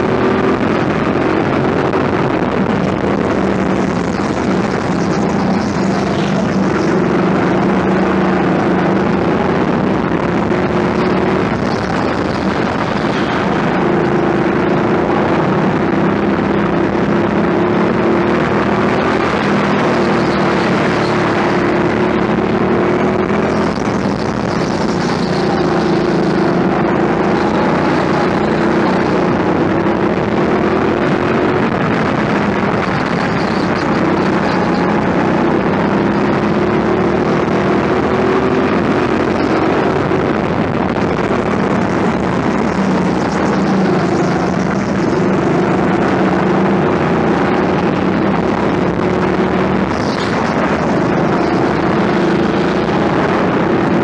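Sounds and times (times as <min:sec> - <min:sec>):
go-kart engine: 0:00.0 - 0:54.0.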